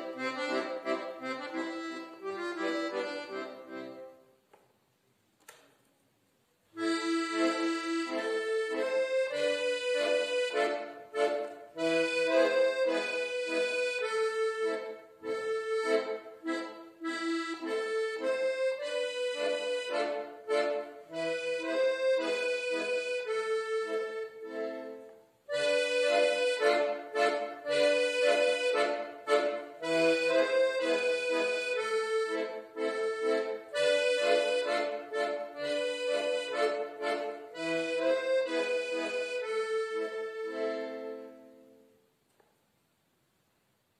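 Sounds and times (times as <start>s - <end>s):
piano accordion playing: 0.0s - 4.4s, 6.8s - 42.0s.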